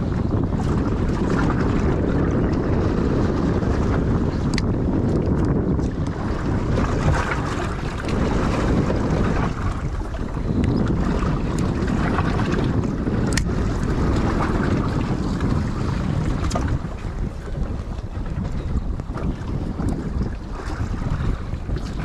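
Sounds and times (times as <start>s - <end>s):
waves washing against boat: 0.0s - 22.0s
wind buffeting microphone: 0.0s - 22.0s.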